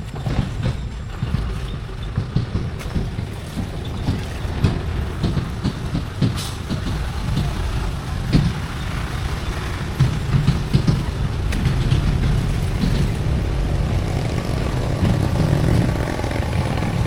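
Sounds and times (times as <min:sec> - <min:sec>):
knocks and rattles: 0:00.0 - 0:17.0
tractor engine running: 0:00.0 - 0:17.0.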